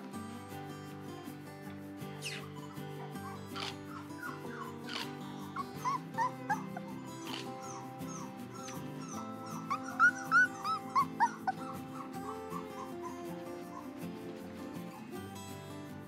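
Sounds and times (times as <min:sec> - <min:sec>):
background music: 0:00.0 - 0:16.0
puppy whimpering: 0:02.2 - 0:15.3.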